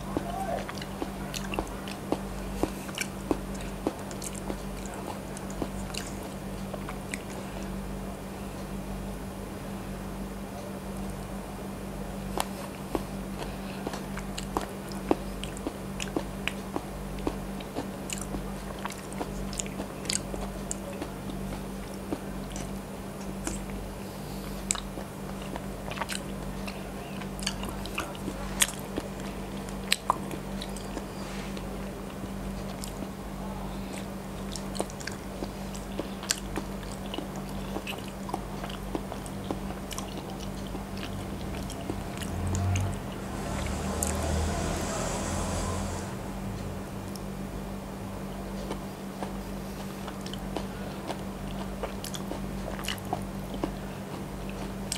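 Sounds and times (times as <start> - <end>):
person chewing wet mouth sounds: 0.0 - 7.8, 12.2 - 44.4, 48.5 - 54.9
steady low hum: 0.0 - 54.9.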